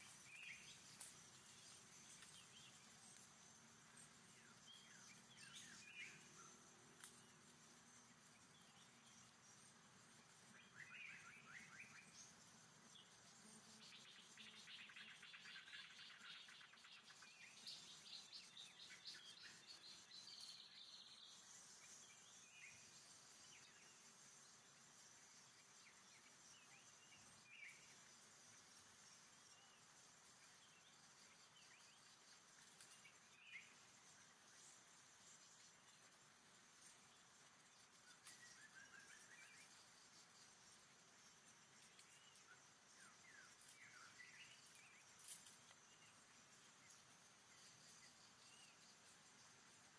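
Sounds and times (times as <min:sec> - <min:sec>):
high insect hum: 0:00.0 - 0:49.9.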